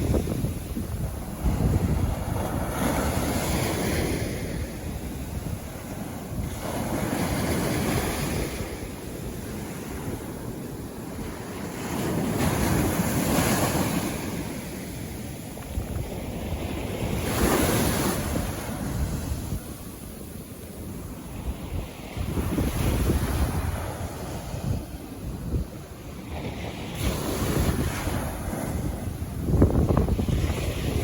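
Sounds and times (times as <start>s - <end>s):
ocean waves breaking on beach: 0.0s - 31.0s.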